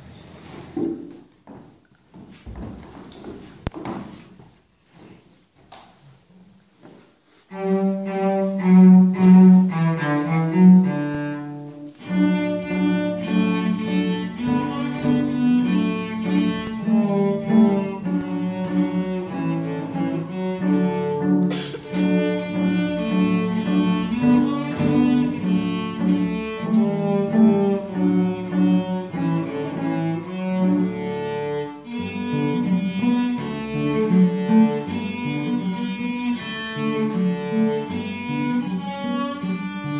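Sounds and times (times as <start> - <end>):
cello duet: 7.2 - 39.9.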